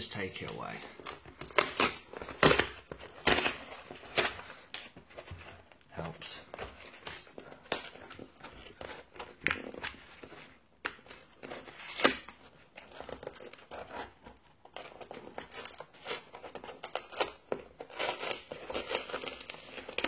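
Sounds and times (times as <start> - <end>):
packaging tearing and crinkling: 0.1 - 4.9, 7.6 - 20.0.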